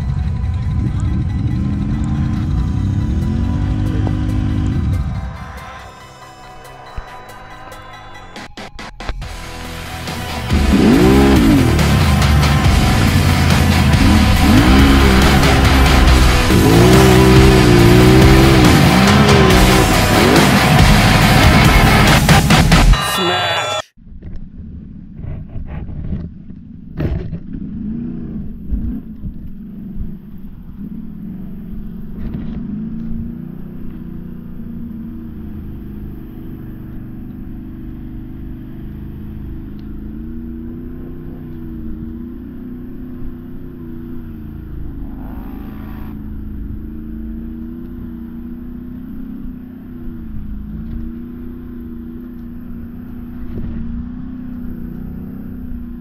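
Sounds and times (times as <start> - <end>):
atv engine revving: 0.0 - 5.4, 9.3 - 22.9, 24.6 - 56.0.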